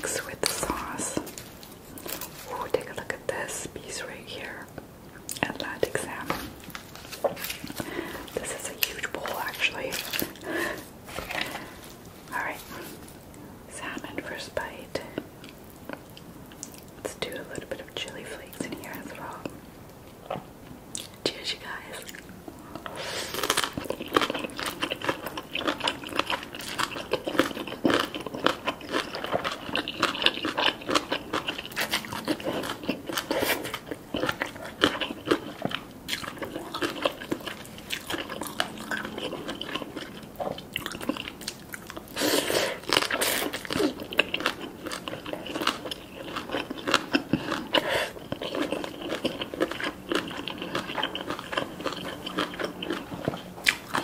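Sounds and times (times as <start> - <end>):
crunchy chewing: 0.0 - 3.7, 5.2 - 14.3, 18.5 - 54.0.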